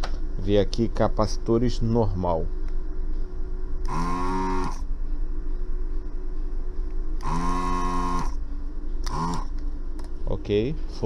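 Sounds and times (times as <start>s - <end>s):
faint steady hum: 0.0s - 11.0s
vacuum pump buzzing hum: 0.0s - 11.0s.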